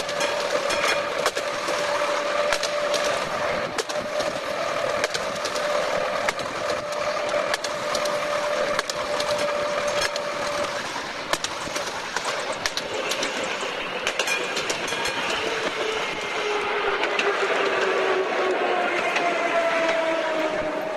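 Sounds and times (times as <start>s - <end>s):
steady whine: 0.0s - 20.9s
tram running gear rumble: 0.0s - 20.9s
wheels clicking on rails: 0.0s - 20.9s.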